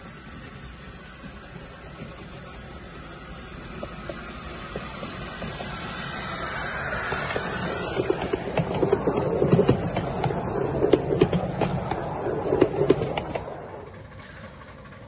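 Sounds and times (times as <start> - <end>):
miniature steam locomotive hissing: 0.0 - 15.0
wheels clicking on track: 0.0 - 15.0.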